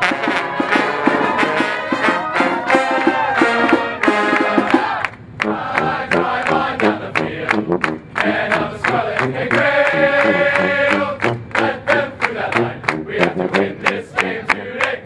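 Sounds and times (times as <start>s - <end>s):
marching band music: 0.0s - 15.0s
people clapping in rhythm: 2.1s - 15.0s.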